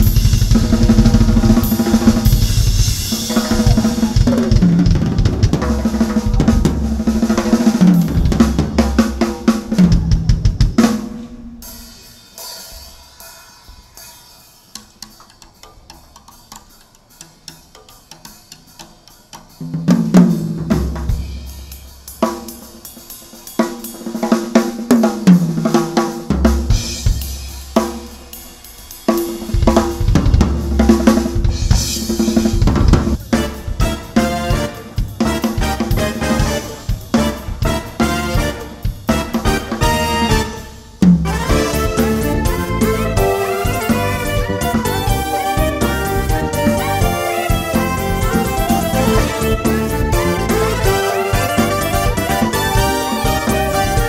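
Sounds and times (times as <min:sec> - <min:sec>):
drum kit solo: 0:00.0 - 0:54.0.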